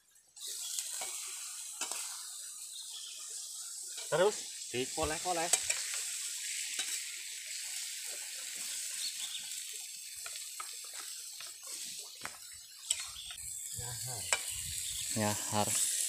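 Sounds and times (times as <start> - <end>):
meat sizzling in oil in a wok: 0.0 - 16.0.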